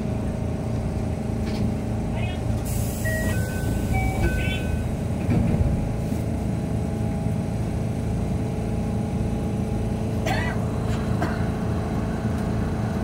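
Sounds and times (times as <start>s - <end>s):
tram equipment humming: 0.0s - 13.0s.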